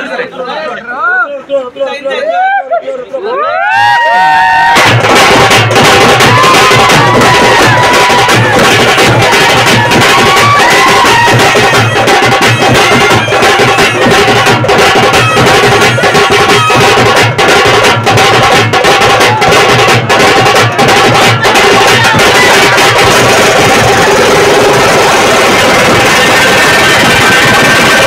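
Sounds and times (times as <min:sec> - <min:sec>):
dense drumming: 0:04.6 - 0:28.0.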